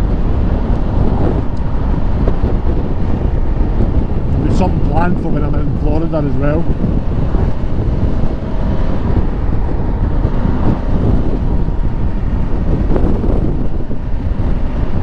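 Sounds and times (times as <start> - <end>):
motorcycle road and engine noise: 0.0 - 15.0
wind rushing over microphone: 0.0 - 15.0.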